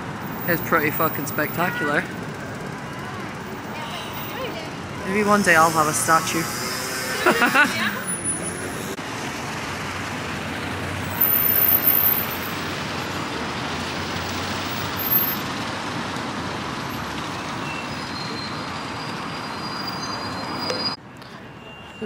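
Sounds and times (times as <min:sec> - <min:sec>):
city road traffic: 0:00.0 - 0:22.0.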